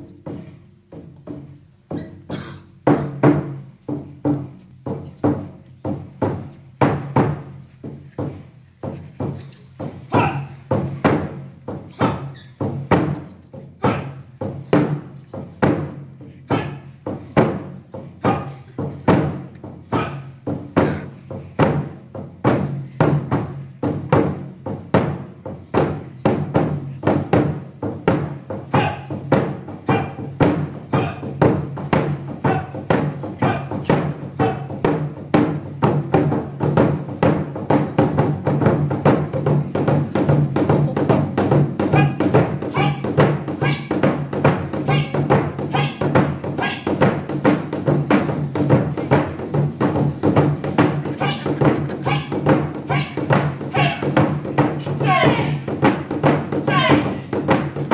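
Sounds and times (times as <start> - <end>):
barrel drums beating: 0.0 - 57.9.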